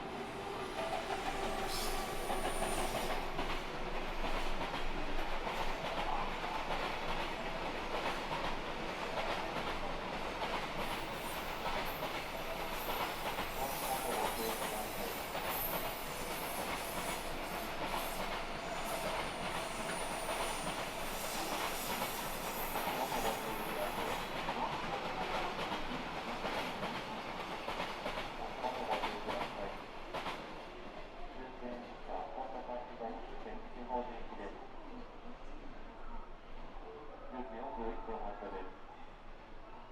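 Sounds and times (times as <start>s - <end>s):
rumble of train wagons: 0.0s - 37.1s.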